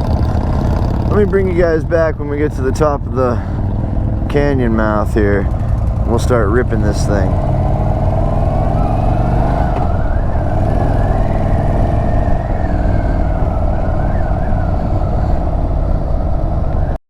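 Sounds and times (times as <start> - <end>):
motorcycle engine running: 0.0 - 16.9
road and wind rumble: 0.0 - 17.0.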